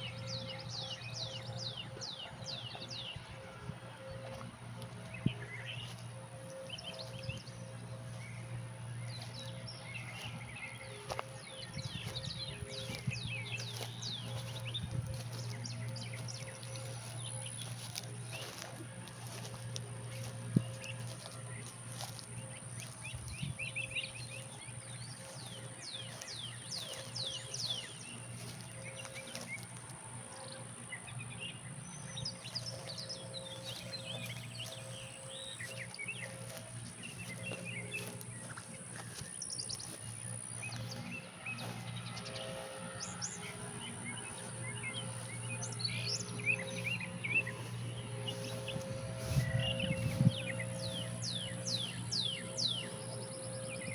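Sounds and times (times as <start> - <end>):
birds chirping: 0.0 - 53.9
steady low hum: 0.0 - 53.9.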